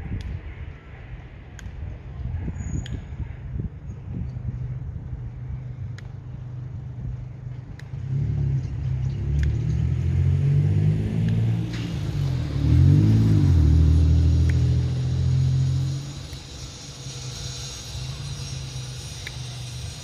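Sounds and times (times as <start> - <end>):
low rumbling motor: 3.0 - 20.0.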